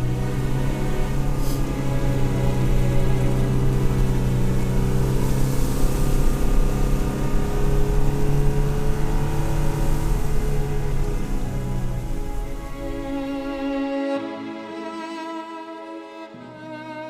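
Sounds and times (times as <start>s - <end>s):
truck engine running: 0.0s - 13.8s.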